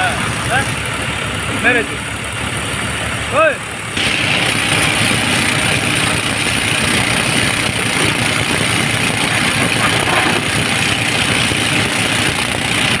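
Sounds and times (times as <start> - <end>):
excavator diesel engine drone: 0.0 - 13.0.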